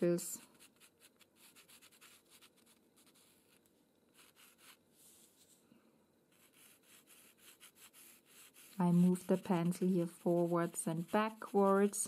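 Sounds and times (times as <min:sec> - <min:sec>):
pencil scratching on paper: 0:00.4 - 0:05.2, 0:06.3 - 0:12.0.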